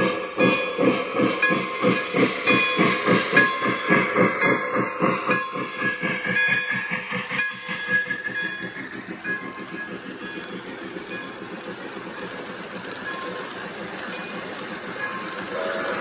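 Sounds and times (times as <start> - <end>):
model train wheels clattering: 0.0 - 16.0.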